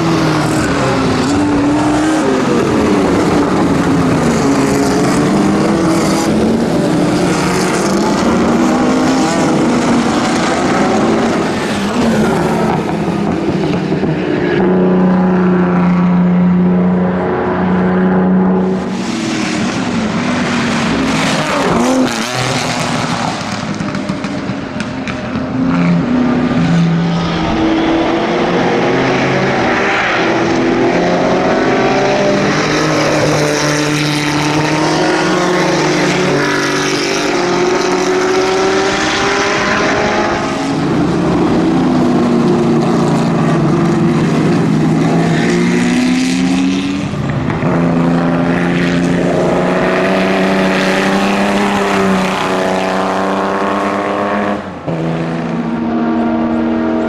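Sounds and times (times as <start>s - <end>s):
racing car engines at full throttle: 0.0s - 57.0s.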